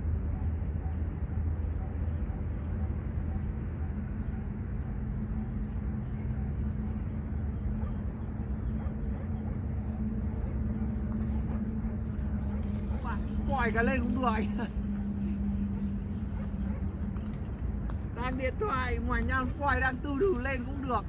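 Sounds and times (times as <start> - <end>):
constant low hum: 0.0 - 21.0
low outdoor rumble: 0.0 - 21.0.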